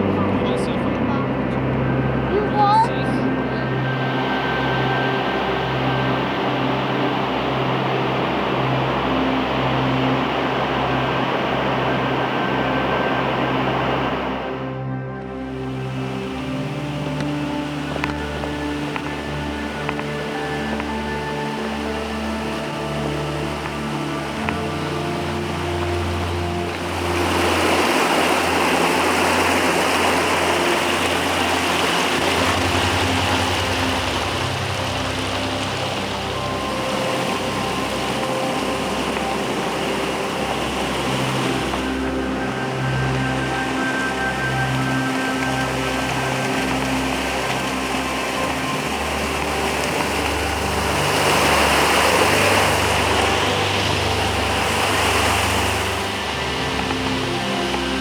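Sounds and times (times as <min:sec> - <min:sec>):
waterfall roaring: 0:00.0 - 0:14.7, 0:15.5 - 0:58.0
faint background music: 0:00.0 - 0:58.0.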